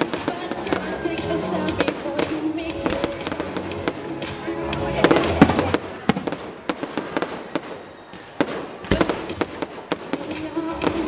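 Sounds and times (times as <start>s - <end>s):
fireworks bursting and crackling: 0.0s - 11.0s
heavy fireworks boom: 0.0s - 11.0s.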